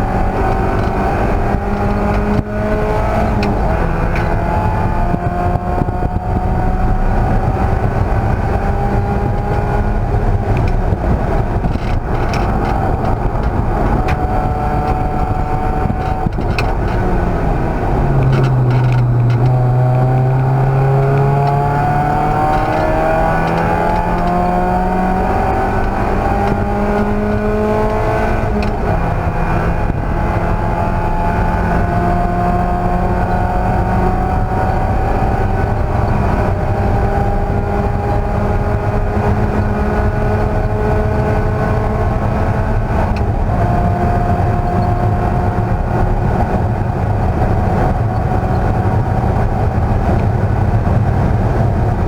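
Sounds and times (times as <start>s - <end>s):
race car engine: 0.0s - 52.0s
wind and road noise: 0.0s - 52.0s.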